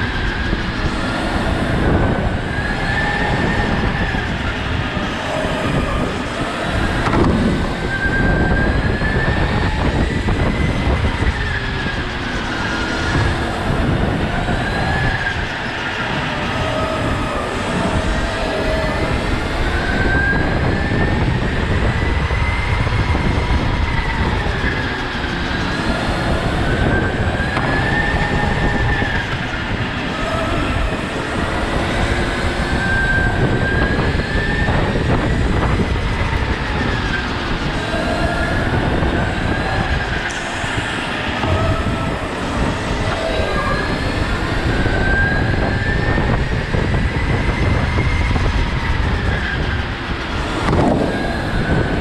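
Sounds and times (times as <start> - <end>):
go-kart engine whine: 0.0 - 52.0
low engine rumble: 0.0 - 52.0.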